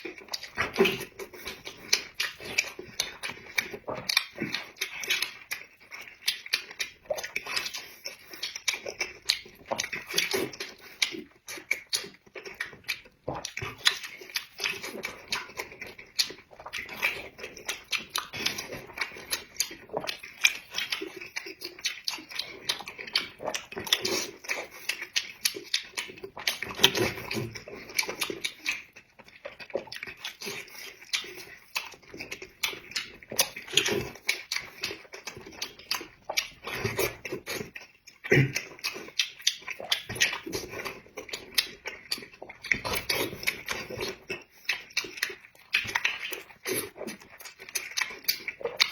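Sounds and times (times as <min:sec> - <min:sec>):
chewing and lip-smacking: 0:00.0 - 0:48.9.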